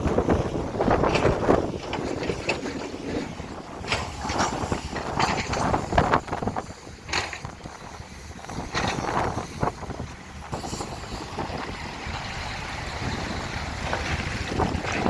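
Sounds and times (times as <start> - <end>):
excavator engine running: 0.0 - 15.0
wind buffeting microphone: 0.0 - 15.0.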